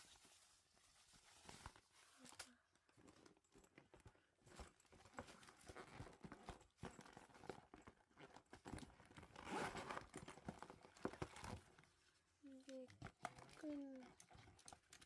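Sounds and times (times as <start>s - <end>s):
packaging rustling and clicking: 1.4s - 11.9s, 12.5s - 15.0s.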